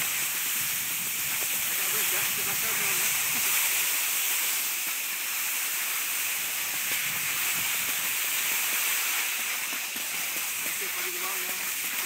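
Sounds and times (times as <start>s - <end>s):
skis hissing on snow: 0.0s - 12.0s.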